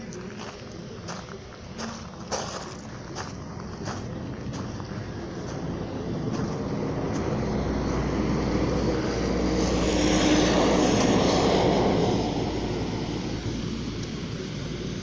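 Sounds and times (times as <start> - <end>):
passing engine: 0.0 - 15.0.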